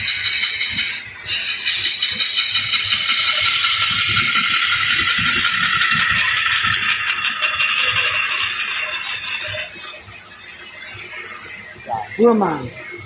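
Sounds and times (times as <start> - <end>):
workshop machine whirring: 0.0 - 13.0.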